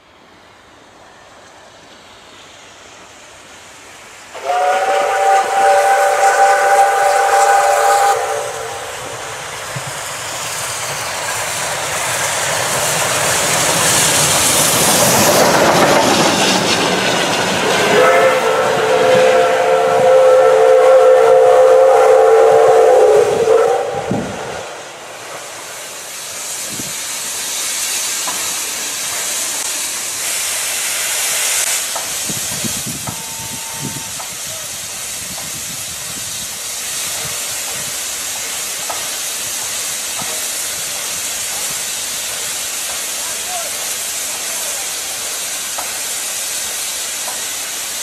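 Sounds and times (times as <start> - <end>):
steam hissing: 0.0 - 48.0.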